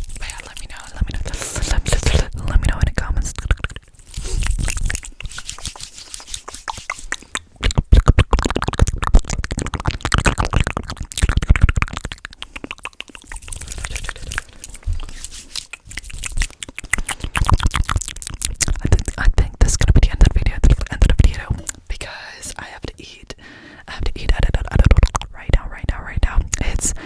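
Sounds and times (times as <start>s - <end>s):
wet mouth clicks and smacks: 0.0s - 22.0s, 24.1s - 25.4s, 26.4s - 27.0s.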